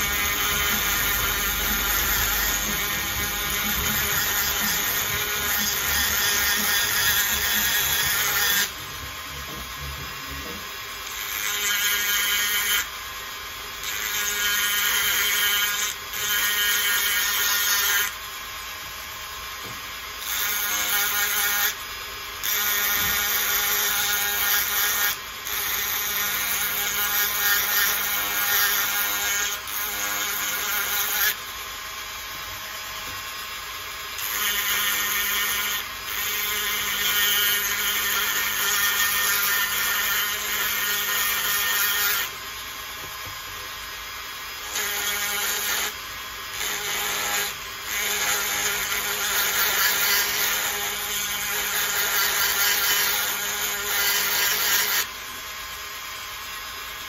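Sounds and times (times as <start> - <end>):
rotary tool whining while carving: 0.0 - 55.5.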